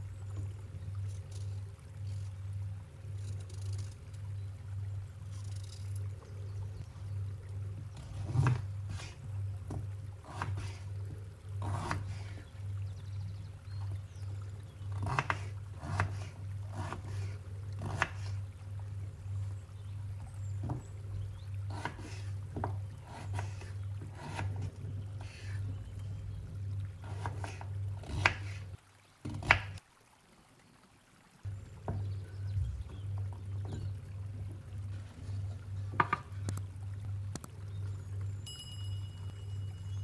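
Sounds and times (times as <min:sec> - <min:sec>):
low pulsing hum: 0:00.0 - 0:28.8, 0:31.5 - 0:40.0.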